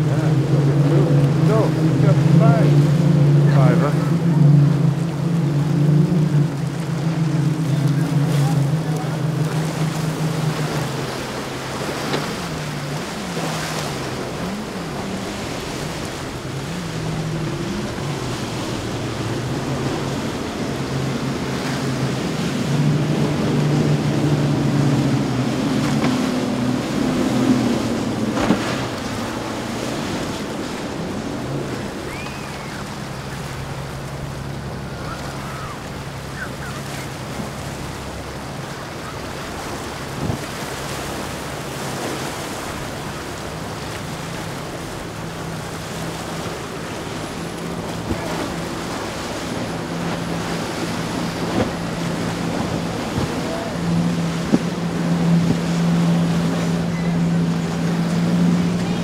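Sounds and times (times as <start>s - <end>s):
boat engines droning: 0.0s - 59.0s
waves breaking: 0.0s - 59.0s.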